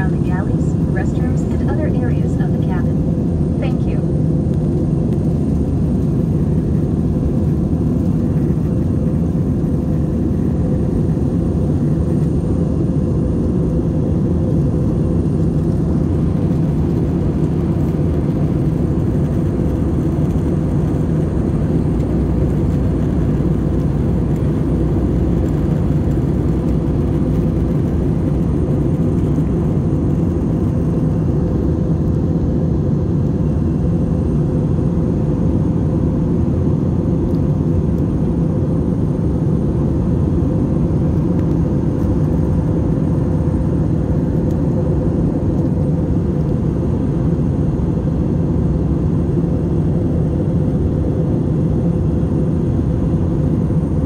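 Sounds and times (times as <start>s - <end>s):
airliner cabin drone: 0.0s - 54.0s
faint steady hum: 0.0s - 54.0s.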